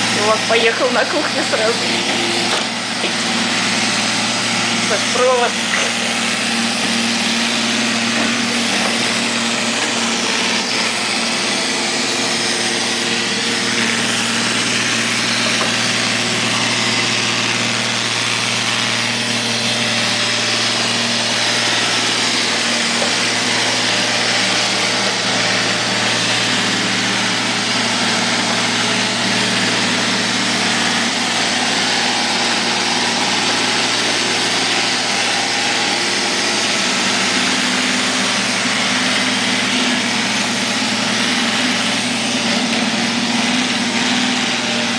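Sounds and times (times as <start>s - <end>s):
robot vacuum cleaner motor whir: 0.0s - 44.9s.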